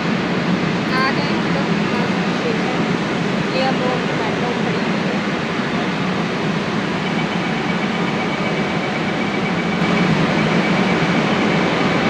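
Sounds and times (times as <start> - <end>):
faint high whine: 0.0 - 12.0
train rumble and rush: 0.0 - 12.0.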